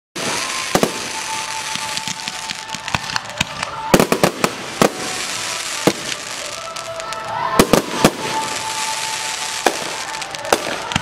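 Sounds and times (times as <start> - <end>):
fireworks bangs: 0.2 - 11.0
fireworks crackling: 0.2 - 11.0.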